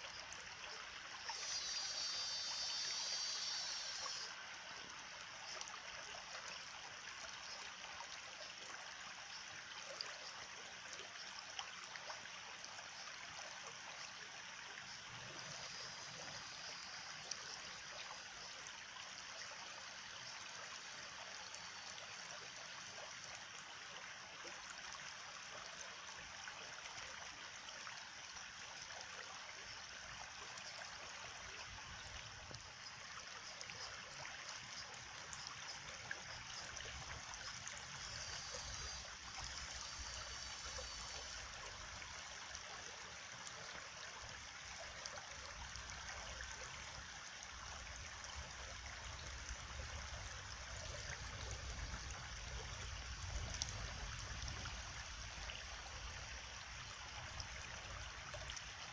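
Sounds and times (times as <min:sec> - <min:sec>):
stream water flowing: 0:00.0 - 0:58.9.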